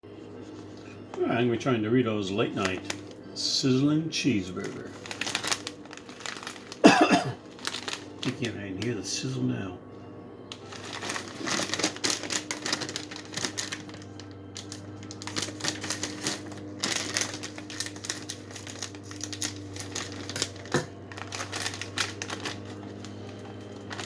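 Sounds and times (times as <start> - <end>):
foil chip bag crinkling: 0.4 - 9.4, 10.5 - 24.0.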